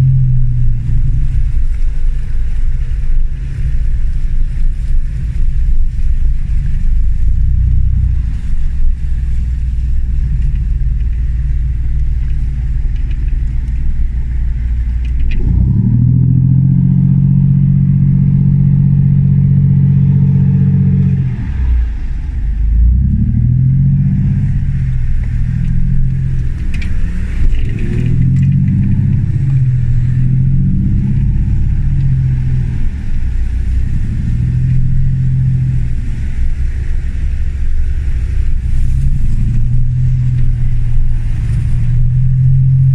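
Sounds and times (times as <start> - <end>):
diesel engine revving: 0.0 - 42.9.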